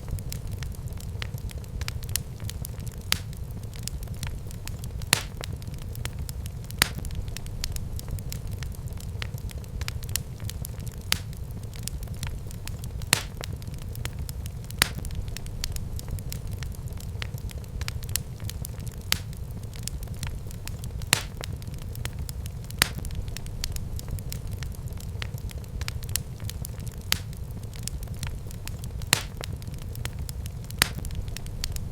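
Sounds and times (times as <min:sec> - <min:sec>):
fire crackling and popping: 0:00.0 - 0:31.9
wood fire rumbling: 0:00.0 - 0:31.9.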